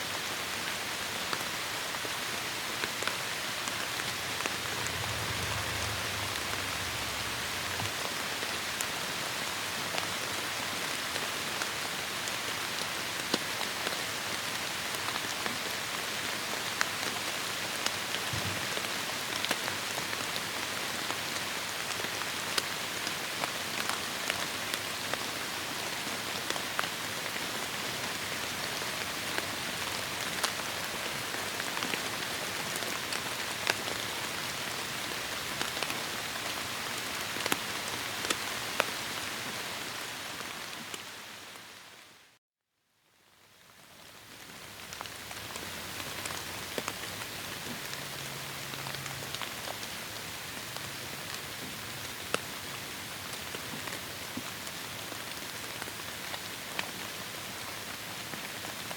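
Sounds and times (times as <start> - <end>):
heavy rain on foliage: 0.0 - 42.4, 43.1 - 58.9.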